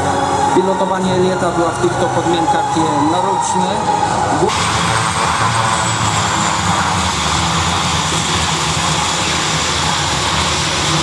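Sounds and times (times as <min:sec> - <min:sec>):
aircraft engine noise: 0:00.0 - 0:11.0
faint high whine: 0:00.0 - 0:11.0.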